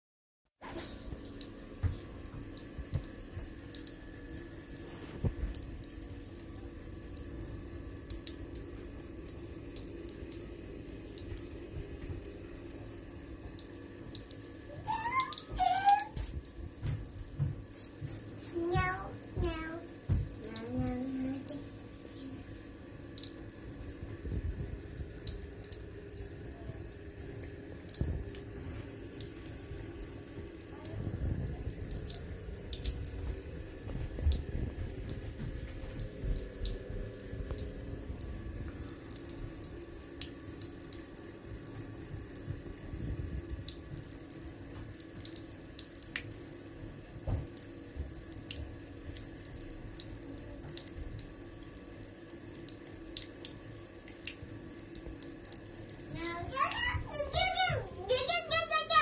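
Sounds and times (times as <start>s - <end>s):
tap water trickling into basin: 0.9s - 58.5s.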